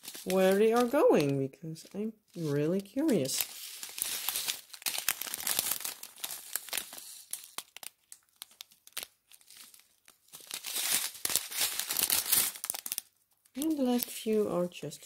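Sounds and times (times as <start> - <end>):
plastic bags crinkling: 0.0 - 1.5, 2.3 - 15.0.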